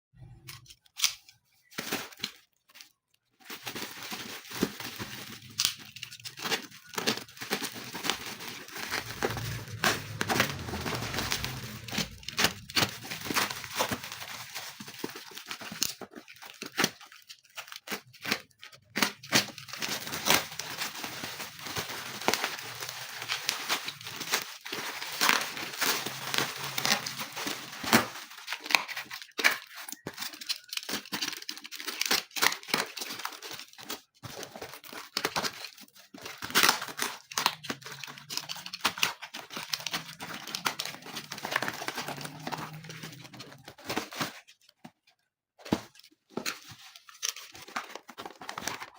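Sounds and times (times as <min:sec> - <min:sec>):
packaging tearing and crinkling: 0:01.0 - 0:44.7, 0:45.7 - 0:48.9.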